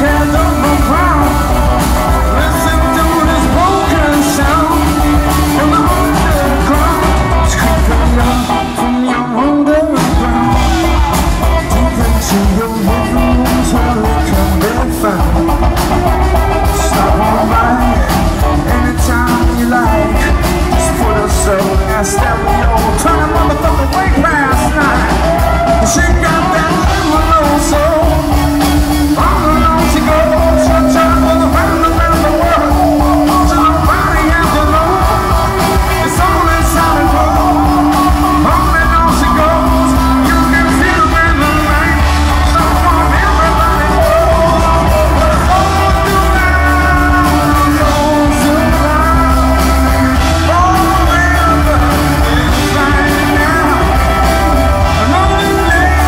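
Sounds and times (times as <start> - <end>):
drums: 0.0 - 56.0
electric guitars: 0.0 - 56.0
keyboard: 0.0 - 56.0
lead singer singing: 0.0 - 56.0.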